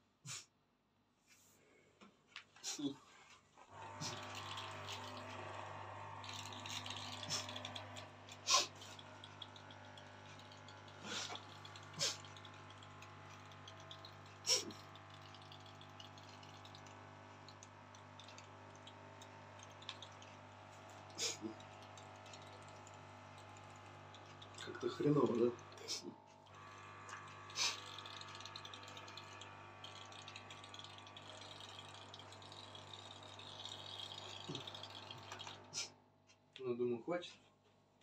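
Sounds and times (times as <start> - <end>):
pump humming: 3.7 - 35.9
water spitting and dripping: 3.8 - 35.9.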